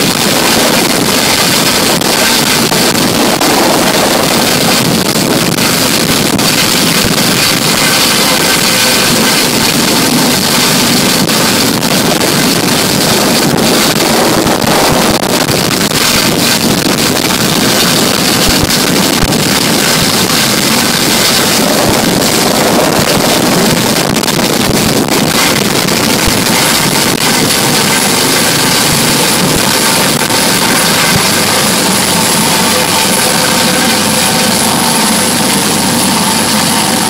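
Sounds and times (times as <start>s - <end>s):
boat engine running: 0.0s - 37.0s
rushing wake water: 0.0s - 37.0s
wind buffeting microphone: 0.0s - 37.0s.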